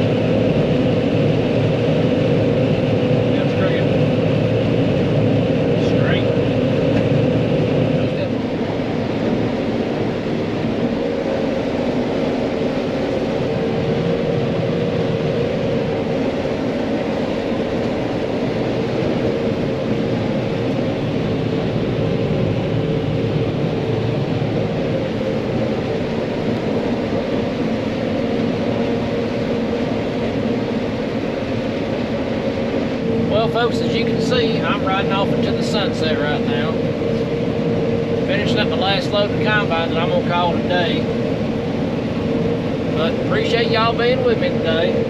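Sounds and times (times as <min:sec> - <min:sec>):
farm vehicle engine droning: 0:00.0 - 0:45.0.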